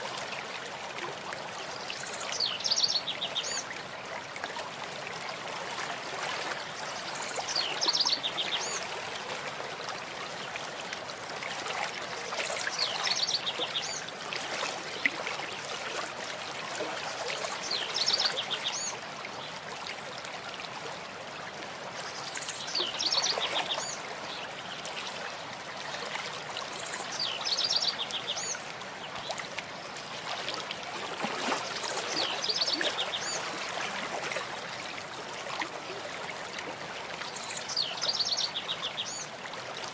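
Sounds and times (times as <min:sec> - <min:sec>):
running stream: 0:00.0 - 0:39.9.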